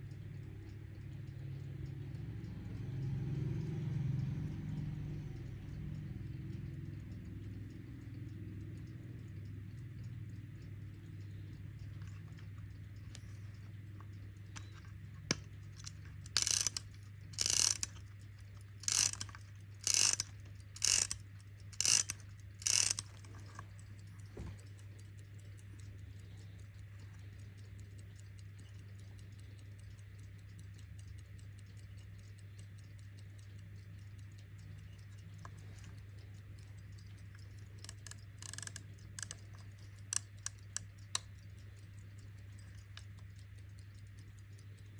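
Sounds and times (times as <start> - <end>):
winding ratchet clicking: 0.0 - 26.0, 26.6 - 44.9
alarm clock ticking: 0.0 - 44.9.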